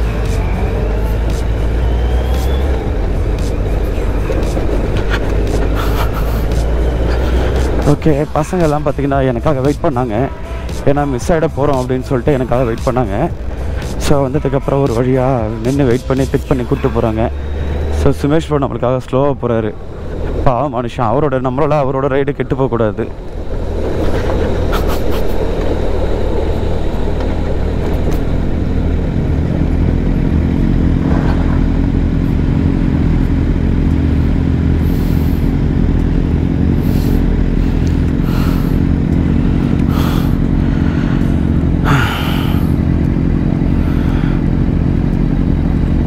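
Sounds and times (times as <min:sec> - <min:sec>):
motorcycle engine running: 0:00.0 - 0:18.6, 0:23.1 - 0:46.0.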